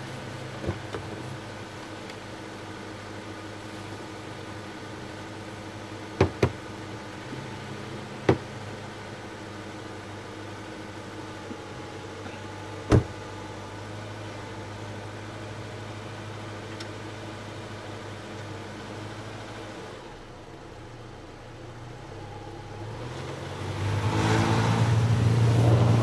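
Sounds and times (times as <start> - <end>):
car engine idling: 0.0 - 23.8.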